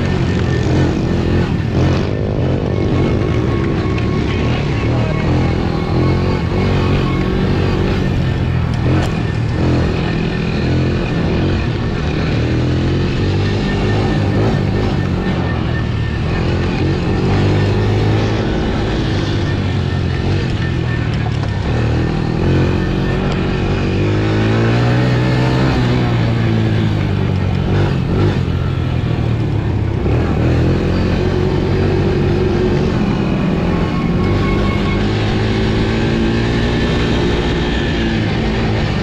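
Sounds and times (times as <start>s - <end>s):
small atv engine running: 0.0s - 39.0s.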